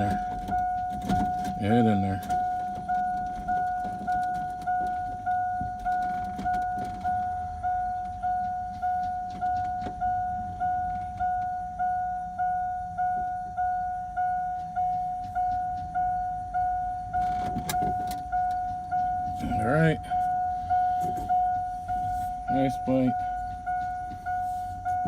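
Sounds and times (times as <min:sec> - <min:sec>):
vehicle warning chime dinging: 0:00.0 - 0:25.0.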